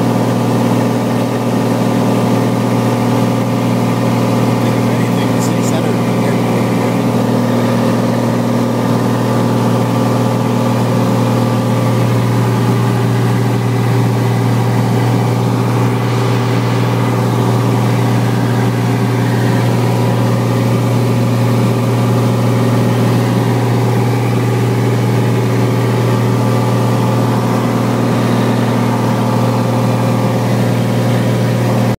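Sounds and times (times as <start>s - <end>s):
aircraft engine droning: 0.0s - 31.9s.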